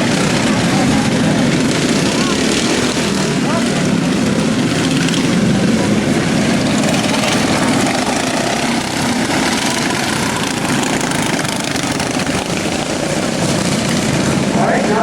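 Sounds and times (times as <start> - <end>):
lawn mower engines running: 0.0 - 15.0.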